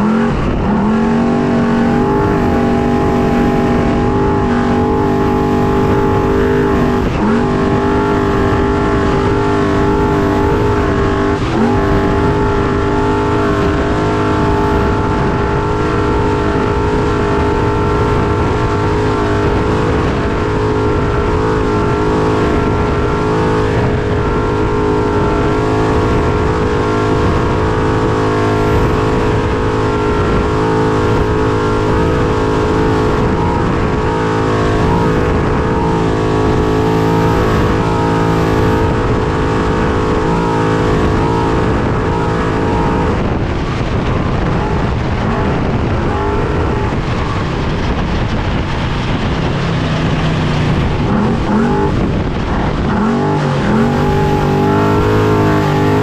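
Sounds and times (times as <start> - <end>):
dense low rumble: 0.0 - 56.0
race engine running high: 0.0 - 56.0.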